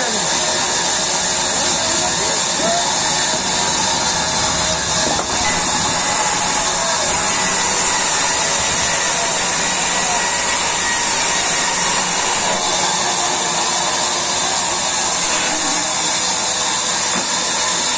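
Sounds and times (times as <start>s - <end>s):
band saw cutting wood: 0.0s - 17.9s.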